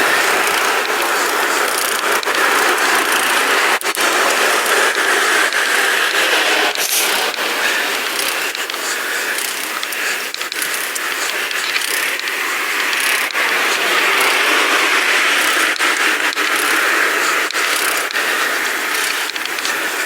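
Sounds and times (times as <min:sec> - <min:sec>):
bicycle clicks and rattles: 0:00.0 - 0:20.0
bicycle rolling road noise: 0:00.0 - 0:20.0.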